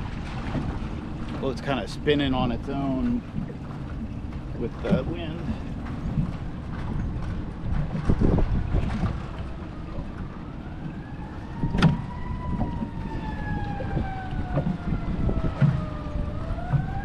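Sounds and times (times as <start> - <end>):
distant siren wailing: 0.0 - 17.0
wind rumbling on microphone: 0.0 - 17.0.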